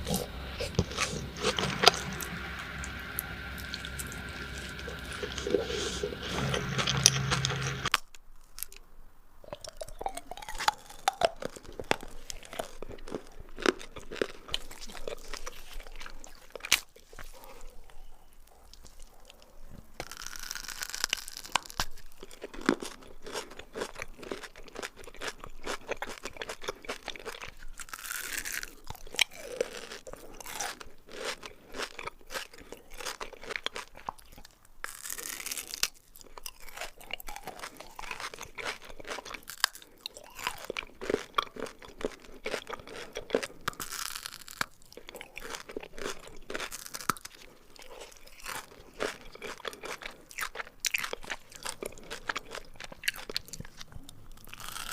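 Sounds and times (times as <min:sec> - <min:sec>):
chocolate crunching and chewing: 0:00.0 - 0:54.9.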